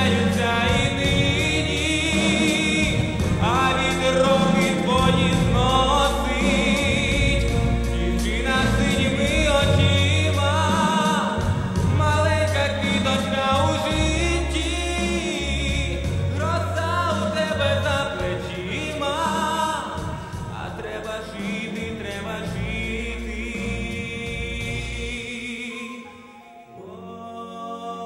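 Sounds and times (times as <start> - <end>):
instrumental accompaniment: 0.0 - 27.3
man singing into microphone: 0.0 - 28.0.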